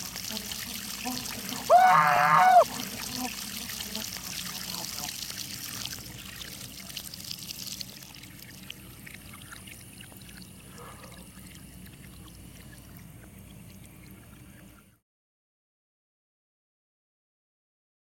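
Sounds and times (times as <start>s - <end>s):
water trickling into a basin: 0.0s - 15.0s.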